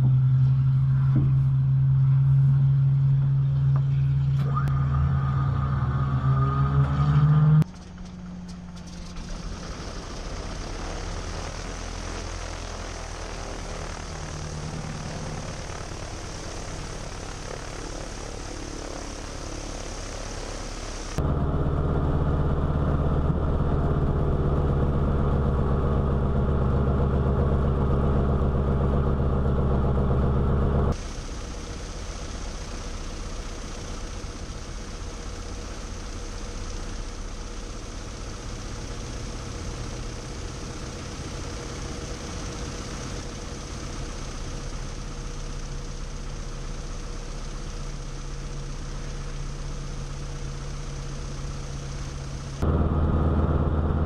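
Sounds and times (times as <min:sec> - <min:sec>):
radial aircraft engine running: 0:00.0 - 0:54.0.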